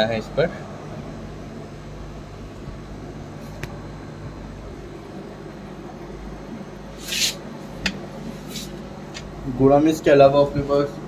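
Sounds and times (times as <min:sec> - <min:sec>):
aquarium aeration hum and hiss: 0:00.0 - 0:11.0.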